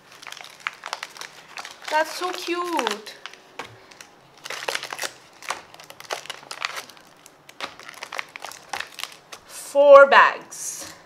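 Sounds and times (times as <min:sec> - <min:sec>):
foil packets crinkling: 0:00.0 - 0:09.5.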